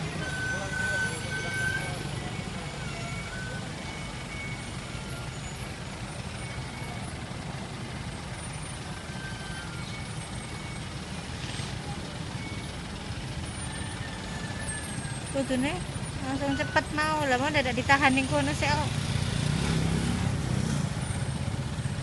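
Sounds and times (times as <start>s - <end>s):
truck diesel engine rumbling: 0.0s - 22.0s.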